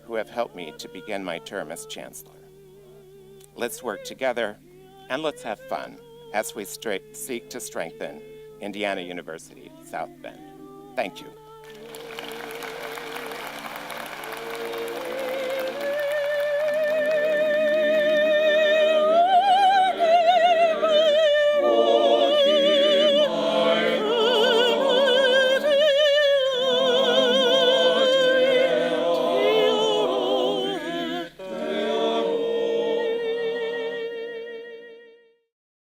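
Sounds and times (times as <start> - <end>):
operatic solo singing: 0.0 - 35.1.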